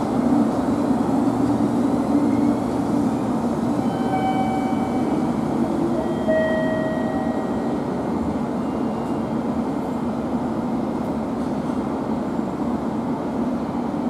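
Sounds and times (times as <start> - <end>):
electric train wheels on rail: 0.0 - 14.0.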